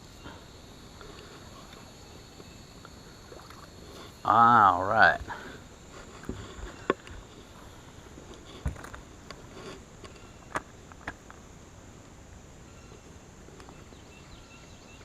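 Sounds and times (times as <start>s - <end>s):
faint insect drone: 0.0s - 15.0s.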